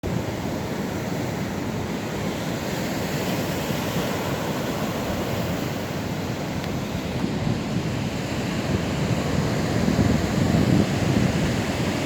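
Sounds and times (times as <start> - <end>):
heavy surf on rocks: 0.0 - 12.0.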